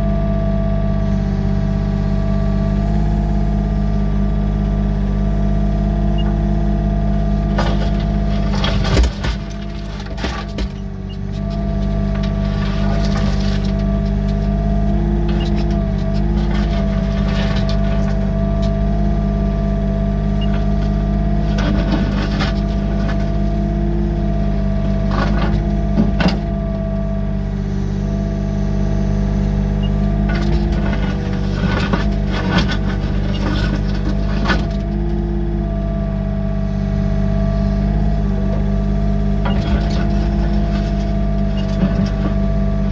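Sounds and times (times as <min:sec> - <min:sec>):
excavator diesel engine running: 0:00.0 - 0:42.9
hydraulic whine: 0:00.0 - 0:42.9
gravel scraping and clattering: 0:06.1 - 0:28.3, 0:29.3 - 0:42.9.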